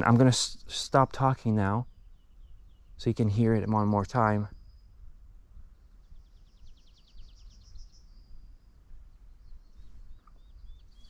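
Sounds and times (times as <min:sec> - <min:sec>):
faint bird song trill: 0:00.0 - 0:11.0.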